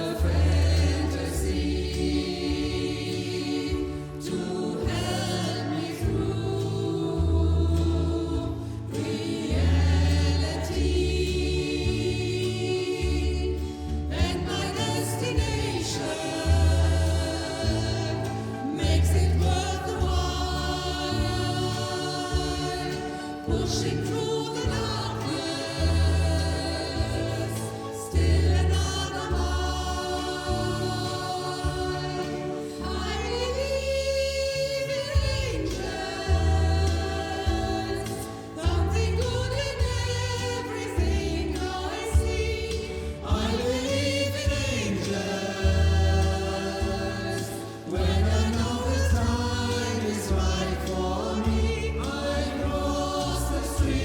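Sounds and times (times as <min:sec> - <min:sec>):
choir singing: 0:00.0 - 0:54.0
low repeating bass notes: 0:00.0 - 0:54.0.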